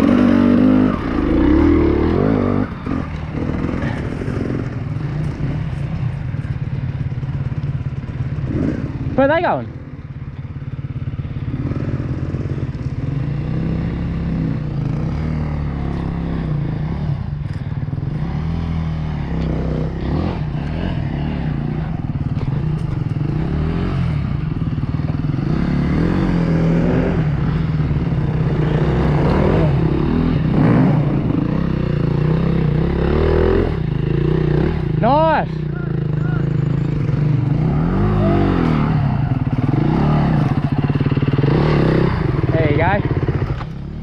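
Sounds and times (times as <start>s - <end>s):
dirt bike engine revving: 0.0s - 9.9s, 10.6s - 44.0s.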